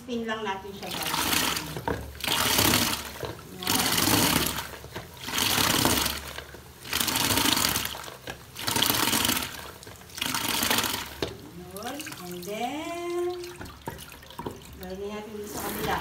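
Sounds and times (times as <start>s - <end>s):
spin mop spinning in water: 0.6s - 16.0s.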